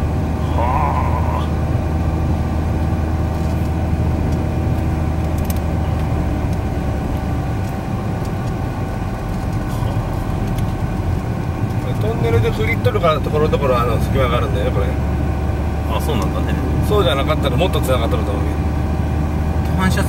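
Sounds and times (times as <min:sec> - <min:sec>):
car engine and tyre noise: 0:00.0 - 0:20.0.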